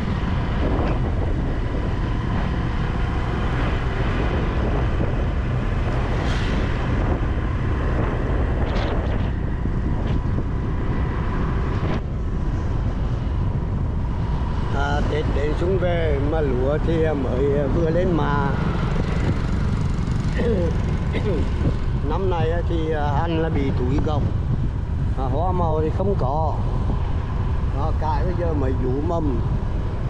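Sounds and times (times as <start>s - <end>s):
engine rumble: 0.0s - 30.0s
wind buffeting microphone: 0.0s - 30.0s.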